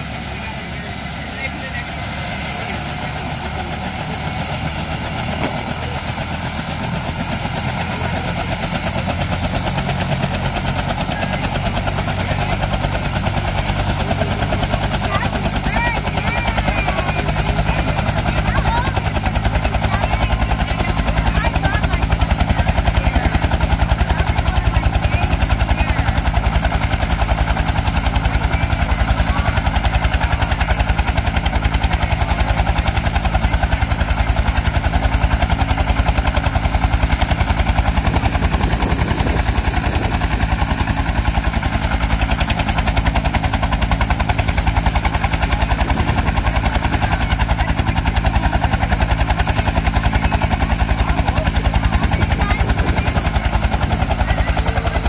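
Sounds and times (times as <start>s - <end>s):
helicopter rotor thumping: 0.0s - 55.0s
turbine drone: 0.0s - 55.0s.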